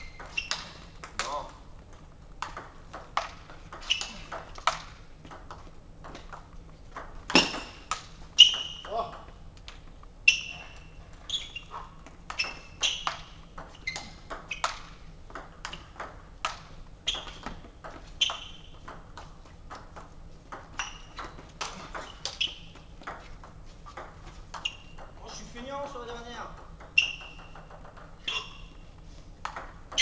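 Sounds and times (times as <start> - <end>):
ball bouncing on table: 0.0 - 10.8, 12.0 - 25.4, 26.3 - 28.8, 29.4 - 30.0
table tennis ball hits: 0.0 - 11.3, 12.0 - 25.5, 26.1 - 28.8, 29.4 - 30.0.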